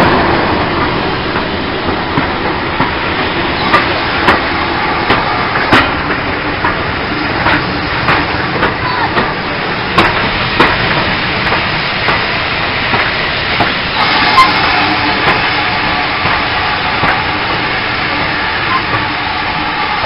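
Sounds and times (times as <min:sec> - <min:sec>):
train coaches rumbling past: 0:00.0 - 0:20.0.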